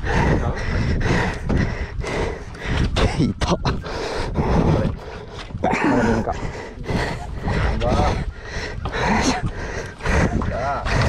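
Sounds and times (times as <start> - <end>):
person panting and grunting: 0.0 - 11.0.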